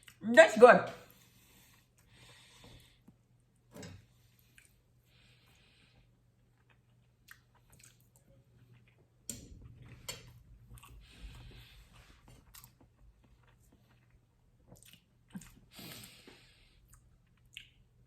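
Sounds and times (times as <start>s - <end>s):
quiet chewing: 1.2s - 18.0s.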